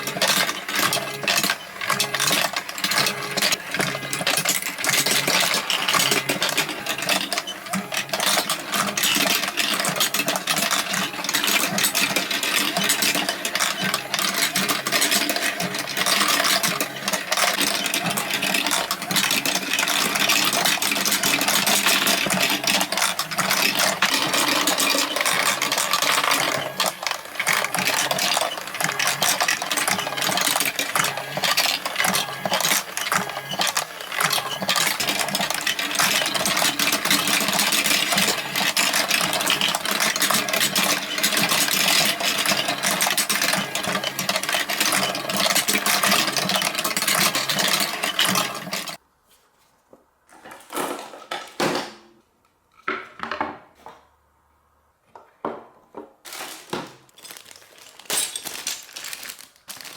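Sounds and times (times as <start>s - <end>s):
marbles clattering down a track: 0.0s - 49.0s, 57.2s - 59.9s.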